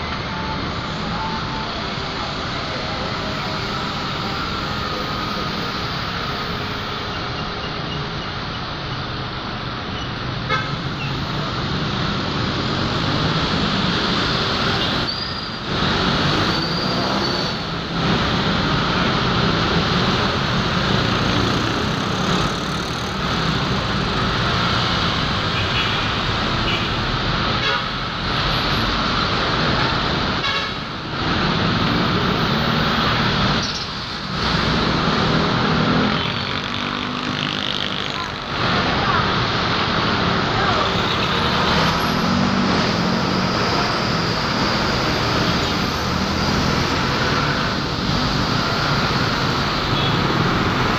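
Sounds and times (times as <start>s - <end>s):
dense city traffic: 0.0s - 50.9s.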